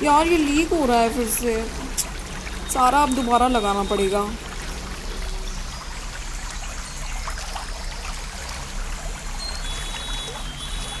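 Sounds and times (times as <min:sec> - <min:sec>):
fountain water trickling and splashing: 0:00.0 - 0:11.0
small water drips: 0:00.0 - 0:11.0.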